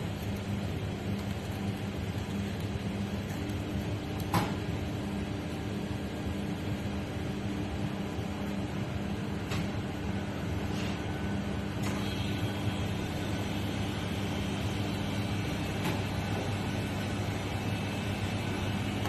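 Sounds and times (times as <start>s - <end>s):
kitchen equipment humming: 0.0s - 19.0s.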